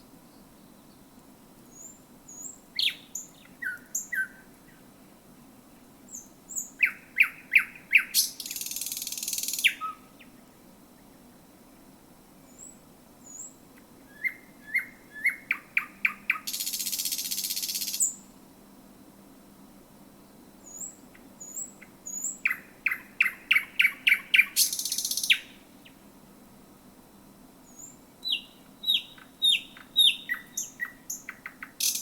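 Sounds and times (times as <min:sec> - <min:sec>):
nightingale singing: 0:00.3 - 0:04.9, 0:06.1 - 0:11.3, 0:12.4 - 0:18.3, 0:20.2 - 0:26.0, 0:27.6 - 0:32.0.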